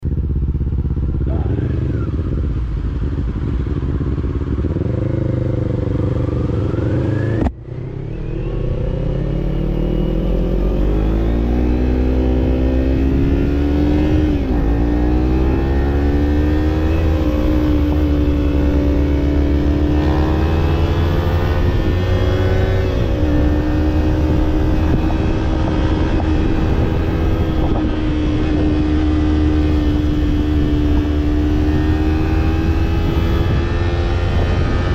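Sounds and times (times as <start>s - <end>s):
motorcycle revving through gears: 0.0s - 34.9s.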